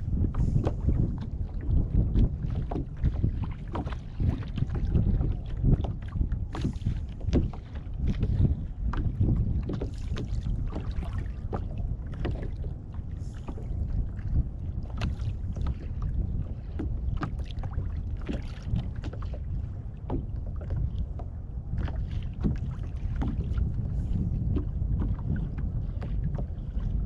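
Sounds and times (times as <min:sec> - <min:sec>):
small waves lapping against hull: 0:00.0 - 0:27.0
wind rumble on microphone: 0:00.0 - 0:27.0.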